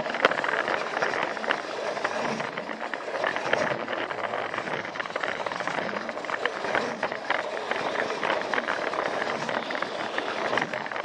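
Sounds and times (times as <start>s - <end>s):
toy train rattling on track: 0.0s - 11.0s.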